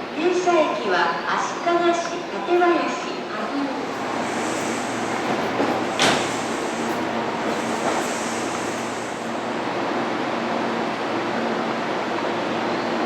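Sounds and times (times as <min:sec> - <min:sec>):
electric train rumble and hiss: 0:01.4 - 0:12.8.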